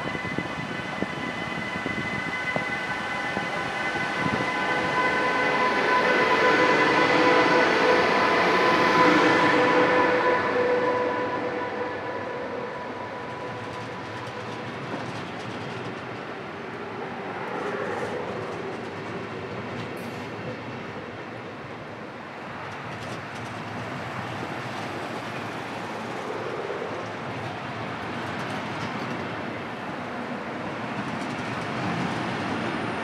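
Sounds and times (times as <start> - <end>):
electric locomotive whine: 0.0 - 33.0
train wheels rumbling on rails: 0.0 - 33.0.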